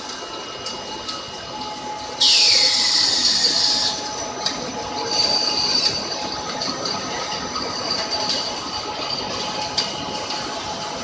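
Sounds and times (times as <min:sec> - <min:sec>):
high metallic machine whine: 0:00.0 - 0:11.0.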